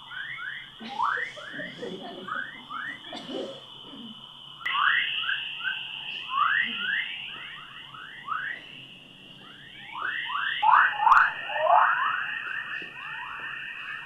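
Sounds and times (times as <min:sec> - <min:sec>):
steady high-pitched tone: 0:00.0 - 0:14.0.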